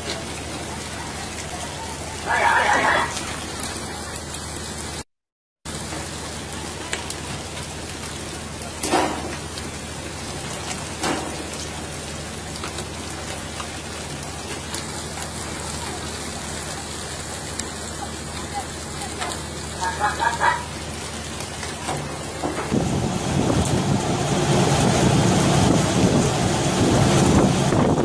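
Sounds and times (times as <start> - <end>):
water spray rushing along hull: 0.0 - 5.0, 5.7 - 28.0.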